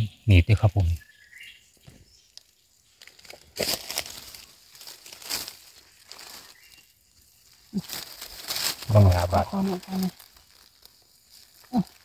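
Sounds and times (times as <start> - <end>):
dry leaves rustling and crunching: 2.4 - 12.0.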